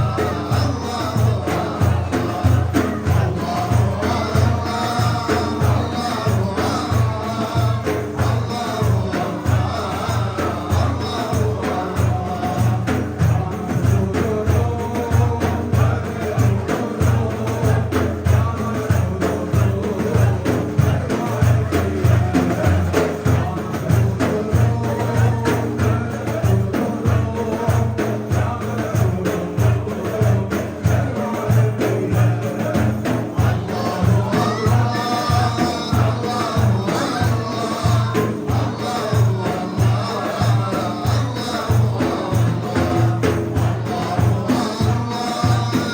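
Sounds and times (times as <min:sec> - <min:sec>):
devotional hymn singing: 0:00.0 - 0:45.9
frame drum beat: 0:00.0 - 0:45.9.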